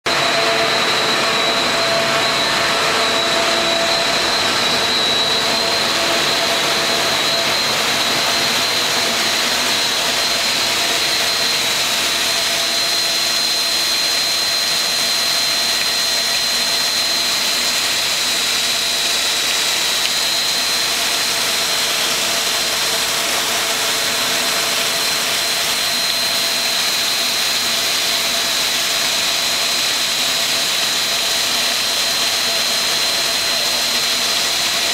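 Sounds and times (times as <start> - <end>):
grinding machine and coolant hiss: 0.1 - 34.9
high machine whine: 0.1 - 34.9.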